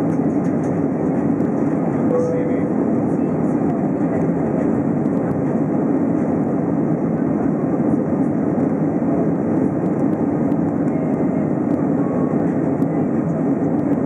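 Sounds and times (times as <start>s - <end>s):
jet engine roar in cabin: 0.0s - 14.0s.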